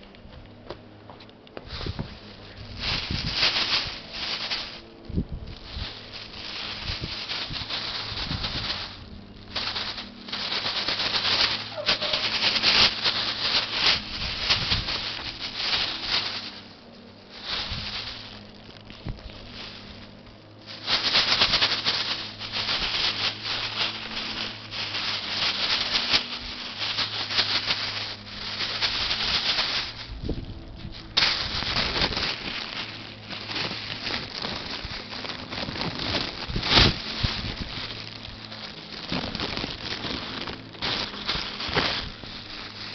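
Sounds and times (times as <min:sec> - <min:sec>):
ferrets scrabbling: 0:01.6 - 0:42.9
plastic bag crinkling: 0:01.6 - 0:42.9.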